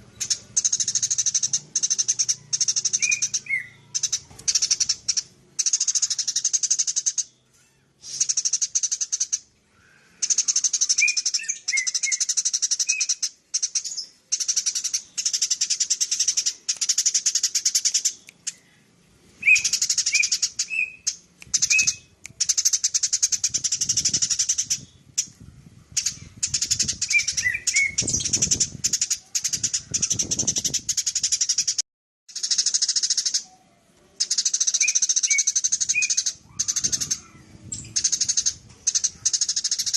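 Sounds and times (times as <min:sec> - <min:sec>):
sparrow chirping: 0:00.0 - 0:07.4, 0:08.1 - 0:18.7, 0:19.4 - 0:39.9.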